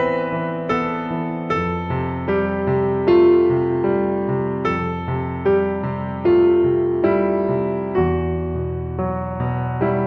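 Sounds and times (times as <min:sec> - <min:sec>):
slow gentle piano: 0:00.0 - 0:10.0.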